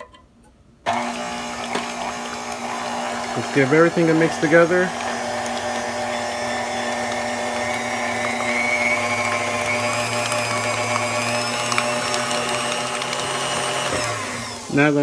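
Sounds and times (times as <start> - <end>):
stand mixer motor humming: 0.9 - 15.0.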